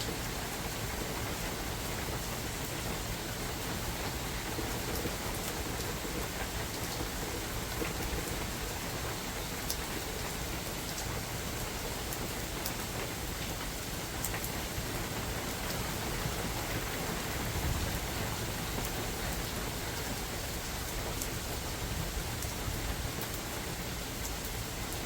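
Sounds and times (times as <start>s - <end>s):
rain falling in forest: 0.0s - 25.0s.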